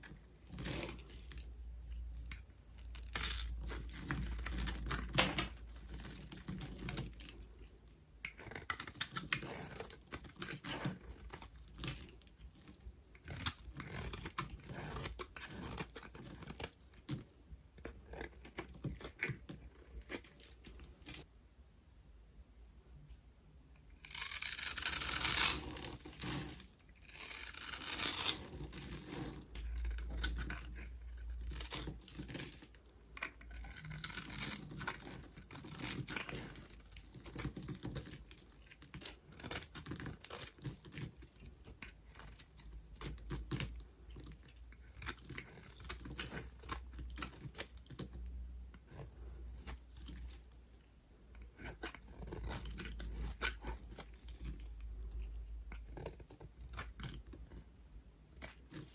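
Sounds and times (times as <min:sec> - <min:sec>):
knife cutting dry soap: 0:00.0 - 0:21.3, 0:24.0 - 0:48.1, 0:51.3 - 0:58.9.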